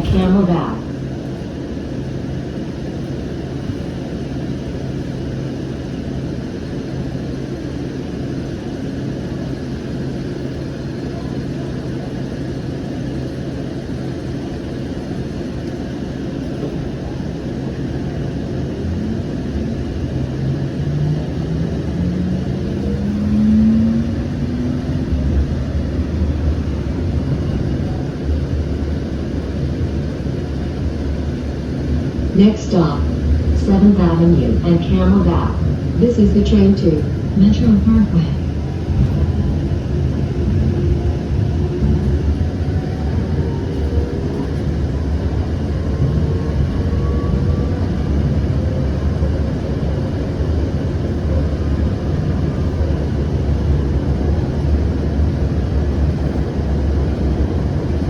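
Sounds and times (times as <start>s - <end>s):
train interior rumble and hum: 0.0s - 58.0s.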